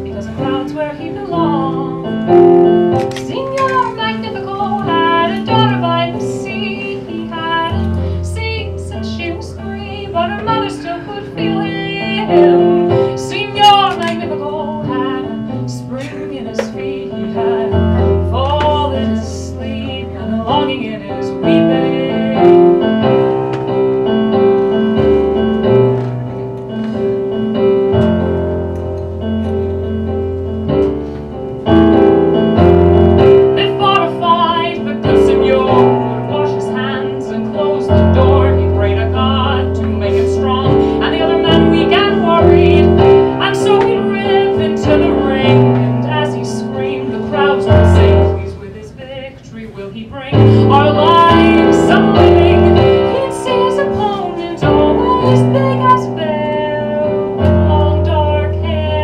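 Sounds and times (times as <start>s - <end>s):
digital piano chord accompaniment: 0.0s - 48.6s, 50.4s - 59.0s.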